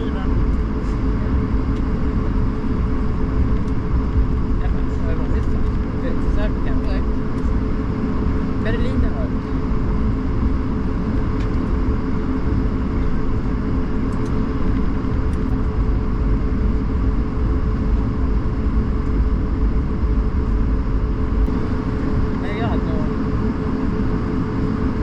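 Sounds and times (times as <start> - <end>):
aircraft engine and airflow rumble: 0.0 - 25.0
constant cabin hum: 0.0 - 25.0.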